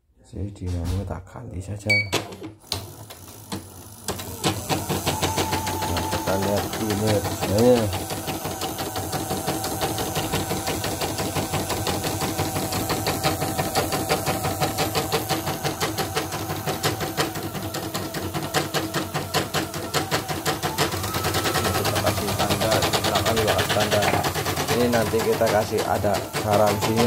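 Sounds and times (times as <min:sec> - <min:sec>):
motor hum: 0:02.5 - 0:27.0.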